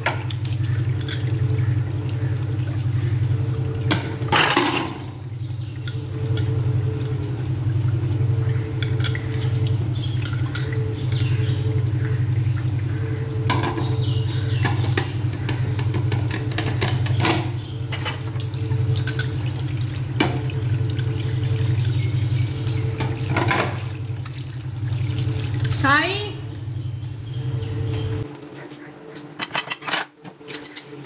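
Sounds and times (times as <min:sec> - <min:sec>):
tap water running into sink: 0:00.0 - 0:25.9
low hum: 0:00.0 - 0:30.8.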